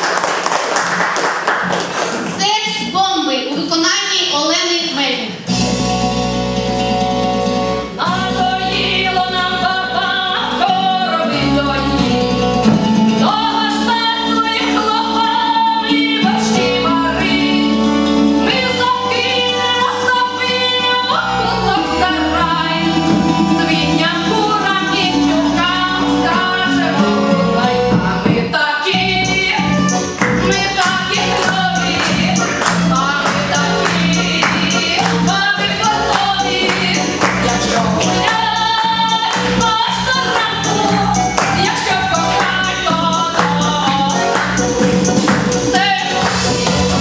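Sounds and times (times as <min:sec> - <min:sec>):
instrumental accompaniment with bass: 0:05.4 - 0:47.0
woman singing: 0:08.0 - 0:46.7.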